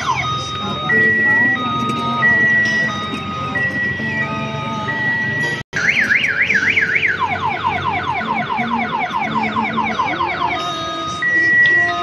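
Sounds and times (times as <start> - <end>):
electronic toy siren: 0.0 - 12.0.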